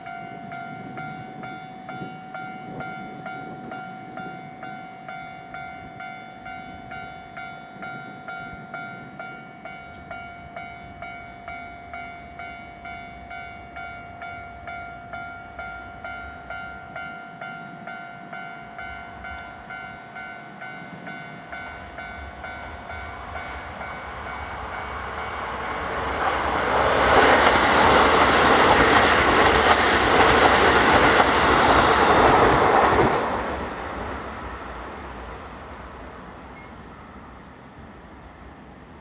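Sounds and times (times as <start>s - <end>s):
level-crossing warning bell: 0.0s - 33.8s
train rumbling through crossing: 0.0s - 39.0s.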